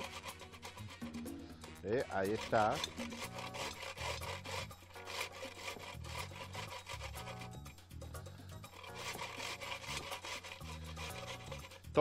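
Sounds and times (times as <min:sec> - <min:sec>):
crackers grated on a grater: 0:00.0 - 0:07.8, 0:08.4 - 0:12.0
background music with bass: 0:00.0 - 0:12.0.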